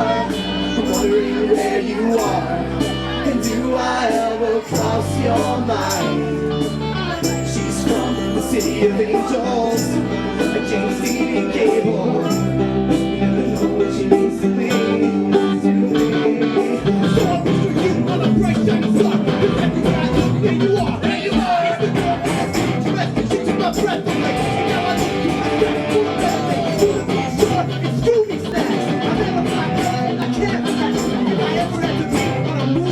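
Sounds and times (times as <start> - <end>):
gliding lead guitar line: 0.0 - 32.9
rock band playing live: 0.0 - 32.9.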